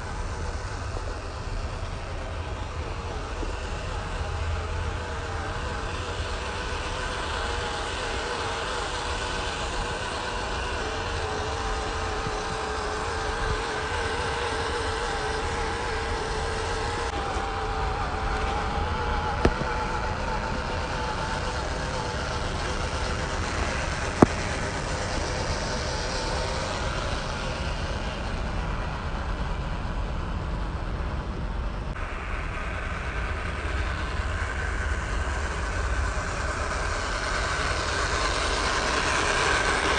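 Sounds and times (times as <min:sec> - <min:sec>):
small electric motor whining: 0:00.0 - 0:39.9.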